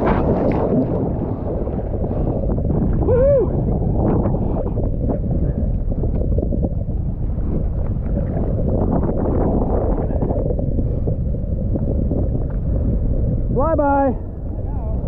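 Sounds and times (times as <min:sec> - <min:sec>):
water rushing and splashing: 0:00.0 - 0:15.0
wind buffeting microphone: 0:00.0 - 0:15.0.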